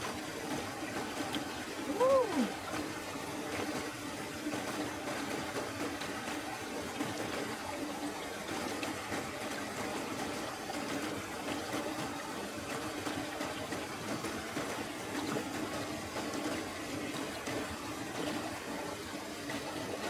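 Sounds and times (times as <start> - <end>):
river water flowing over rocks: 0.0 - 20.0.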